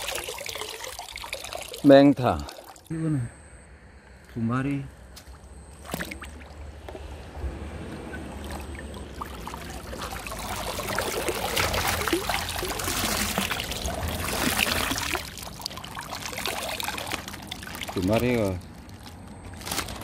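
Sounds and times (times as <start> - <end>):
water splashing and pouring: 0.0 - 2.9, 5.8 - 20.0.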